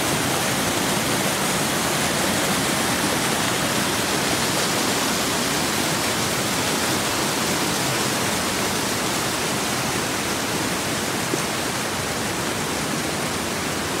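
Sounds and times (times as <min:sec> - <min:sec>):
stream rushing over boulders: 0:00.0 - 0:14.0.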